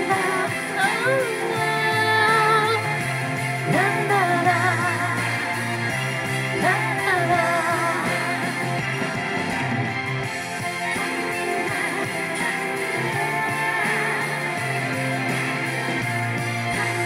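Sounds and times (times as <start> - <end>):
person singing: 0.0 - 9.1, 10.7 - 17.0
bass line: 0.0 - 17.0.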